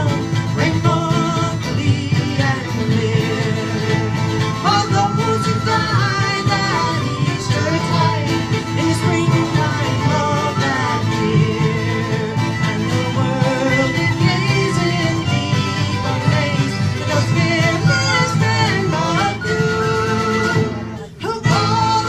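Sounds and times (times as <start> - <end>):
electric bass: 0.0 - 22.0
fiddle melody: 0.0 - 22.0
frame drum: 0.0 - 22.0
mandolin: 0.0 - 22.0
strummed acoustic guitar: 0.0 - 22.0
whistle melody: 3.7 - 22.0.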